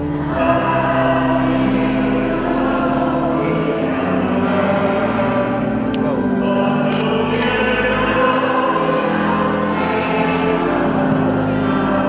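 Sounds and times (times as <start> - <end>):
choir singing a hymn: 0.0 - 12.0.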